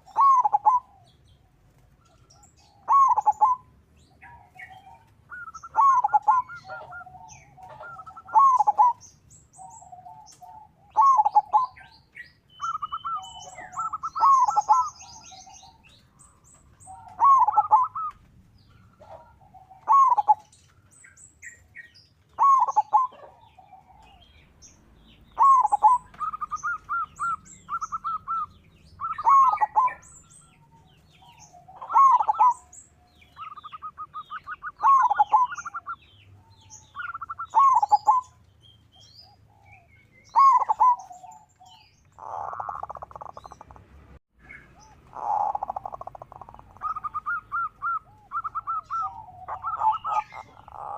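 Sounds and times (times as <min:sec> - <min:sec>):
dove cooing: 0:00.0 - 0:20.6, 0:21.4 - 0:43.8, 0:44.5 - 0:50.9
faint high-pitched chirping: 0:00.0 - 0:43.8, 0:44.4 - 0:50.9.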